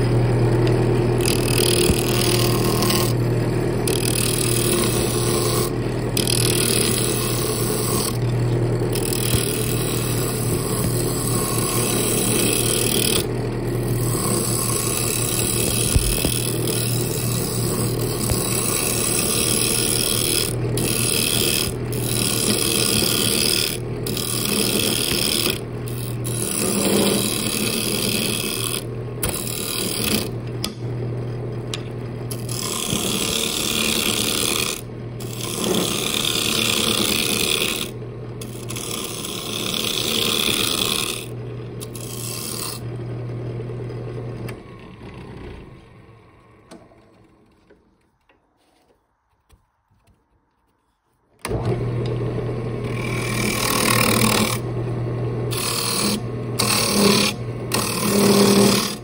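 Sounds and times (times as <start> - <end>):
turning tool shaving wood: 0.0 - 45.7, 51.4 - 59.0
wood lathe motor hum: 0.0 - 48.9, 51.4 - 59.0.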